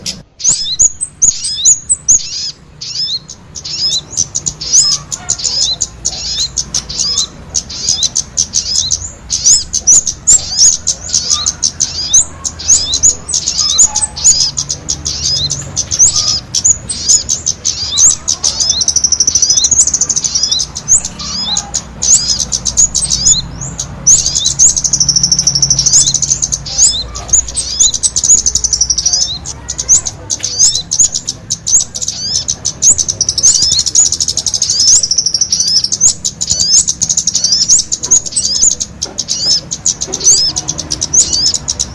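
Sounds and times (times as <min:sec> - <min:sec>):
small birds chirping and twittering: 0:00.0 - 0:41.9.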